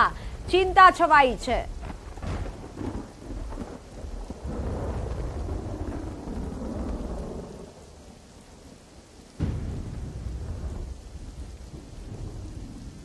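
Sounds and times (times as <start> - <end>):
rain hissing: 0.0 - 13.0
thunder rumbling: 0.0 - 13.0.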